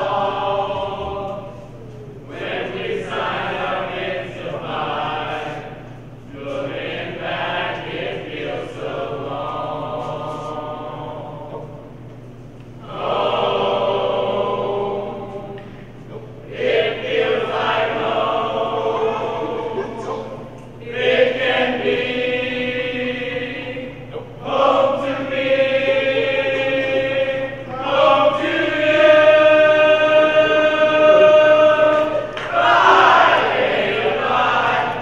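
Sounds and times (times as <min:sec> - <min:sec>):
mixed group singing unaccompanied: 0:00.0 - 0:12.0, 0:12.8 - 0:35.0.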